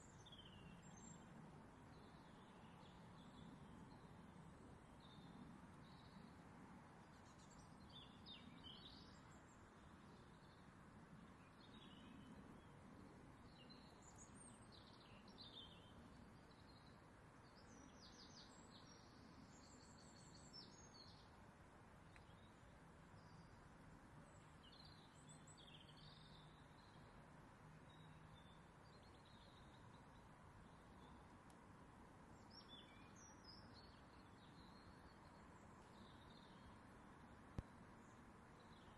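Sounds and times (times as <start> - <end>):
faint room hiss: 0.0 - 38.9.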